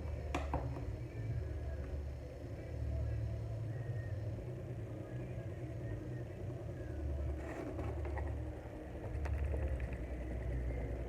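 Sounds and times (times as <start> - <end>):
electric fan motor hum: 0.0 - 11.0.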